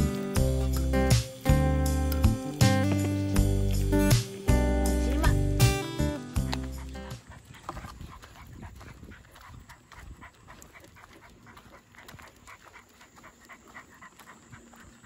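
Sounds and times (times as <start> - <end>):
dog panting: 0.1 - 15.0.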